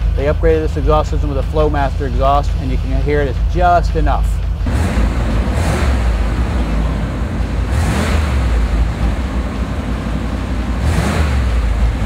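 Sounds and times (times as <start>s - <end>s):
car engine idling rumble: 0.0s - 12.0s.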